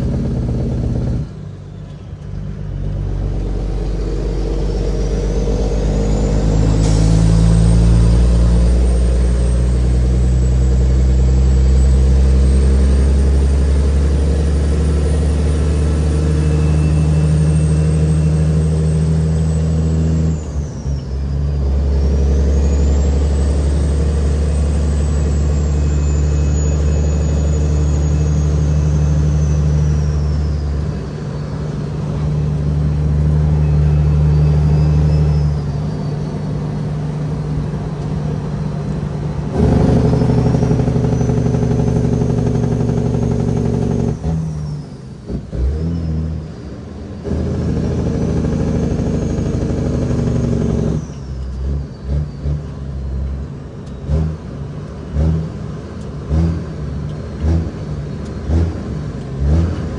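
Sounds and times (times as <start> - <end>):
high engine whistle: 0.0 - 52.6
truck diesel engine under load: 0.0 - 59.9.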